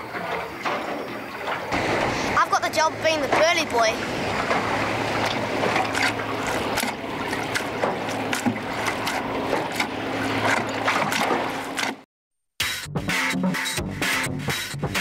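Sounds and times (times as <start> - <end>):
low steady hum: 0.0 - 12.0
wind: 0.0 - 12.0
water noise: 0.0 - 12.1.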